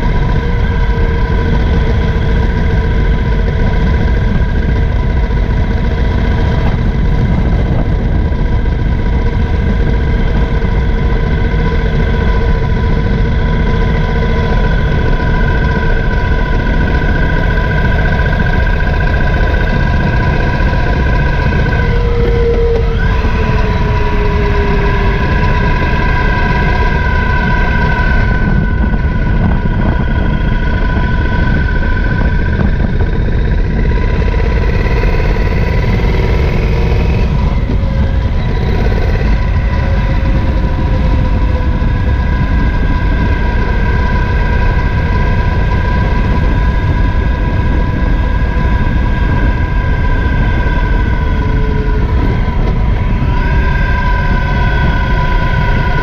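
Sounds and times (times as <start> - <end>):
motorcycle engine running: 0.0 - 56.0
wind and road noise rumble: 0.0 - 56.0.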